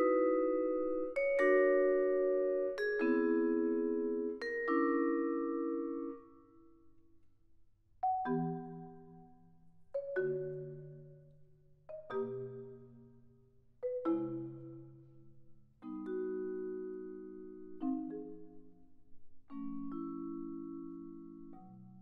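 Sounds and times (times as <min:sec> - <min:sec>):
vibraphone and marimba chords: 0:00.0 - 0:06.5, 0:08.0 - 0:22.0.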